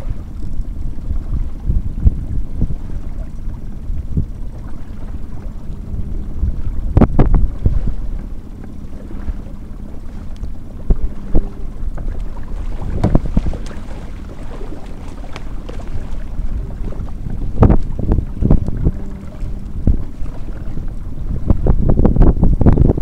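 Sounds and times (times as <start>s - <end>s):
water splashing against boat hull: 0.0s - 23.0s
wind buffeting microphone: 0.0s - 23.0s.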